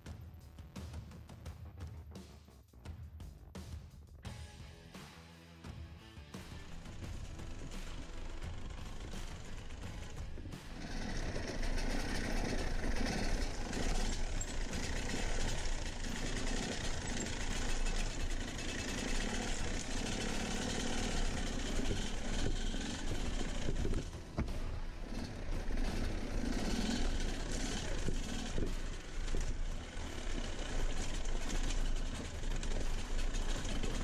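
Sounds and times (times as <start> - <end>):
dirt bike engines revving: 6.5 - 34.0.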